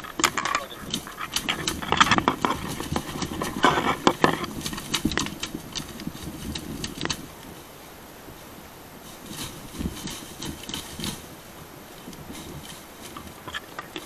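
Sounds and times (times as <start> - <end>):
branches beating flames: 0.0 - 14.0
grass and brush crackling in fire: 0.0 - 14.0.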